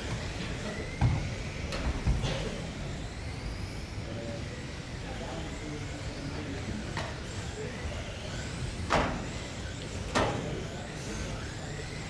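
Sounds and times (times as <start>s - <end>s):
electric toy cars humming: 0.0s - 12.0s.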